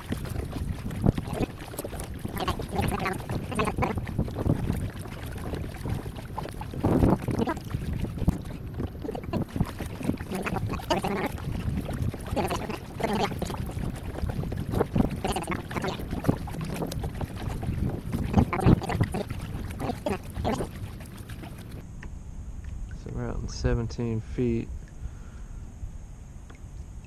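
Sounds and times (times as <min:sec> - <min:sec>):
paddle strokes in water: 0:00.0 - 0:21.8
wind on microphone: 0:00.0 - 0:21.8.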